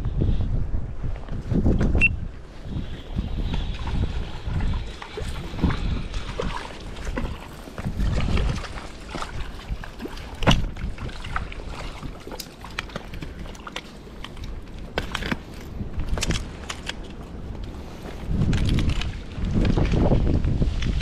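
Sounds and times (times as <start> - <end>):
wind on microphone: 0.0 - 21.0
brook water flowing: 2.4 - 21.0.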